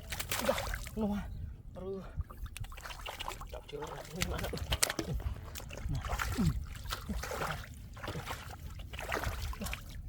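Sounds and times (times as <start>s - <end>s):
floodwater sloshing and splashing: 0.0s - 1.3s, 2.0s - 10.0s.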